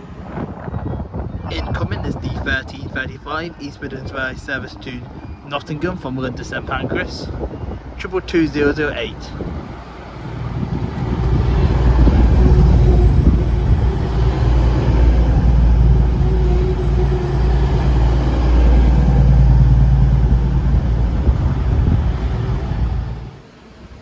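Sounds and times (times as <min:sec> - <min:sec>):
diesel train engines rumbling: 0:00.0 - 0:24.0.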